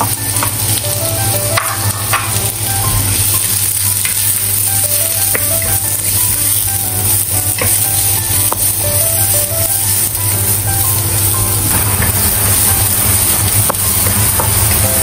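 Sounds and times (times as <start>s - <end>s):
faint light melody: 0.0s - 15.0s
onion sizzling in hot oil: 0.0s - 15.0s.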